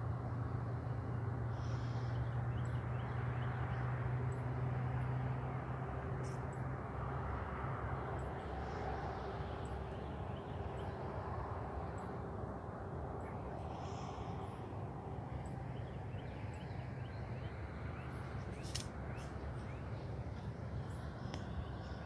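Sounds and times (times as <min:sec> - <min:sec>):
low engine hum: 0:00.0 - 0:22.0
outdoor background noise: 0:00.0 - 0:22.0.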